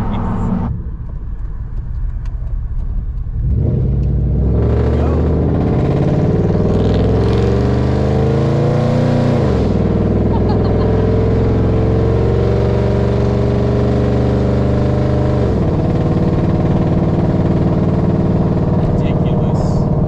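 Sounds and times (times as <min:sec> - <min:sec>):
pickup engine accelerating hard: 0:00.0 - 0:20.0.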